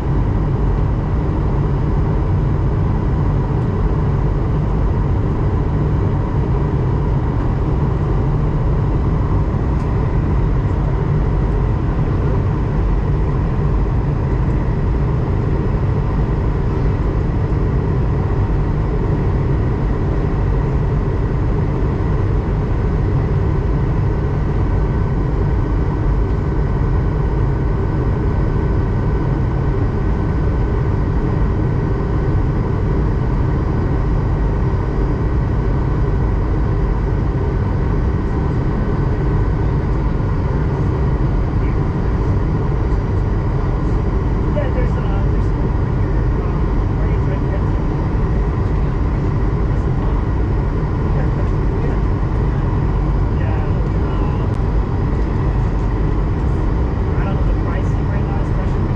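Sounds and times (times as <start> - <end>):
airliner cabin rumble: 0.0 - 58.9.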